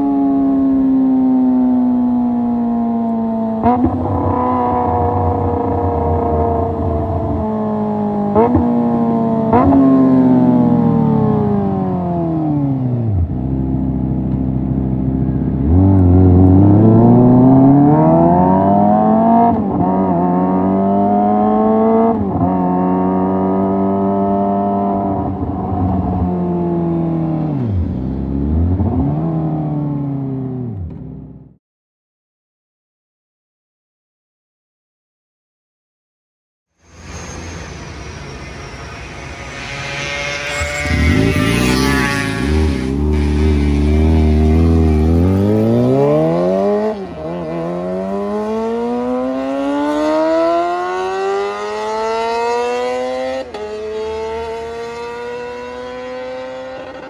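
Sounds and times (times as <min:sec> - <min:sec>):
motorcycle engine revving: 0:00.0 - 0:31.6, 0:36.9 - 0:57.0.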